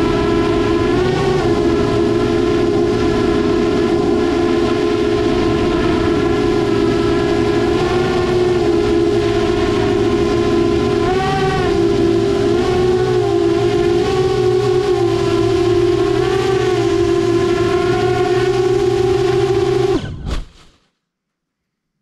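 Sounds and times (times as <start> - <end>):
quadcopter propellers whining: 0.0 - 20.2.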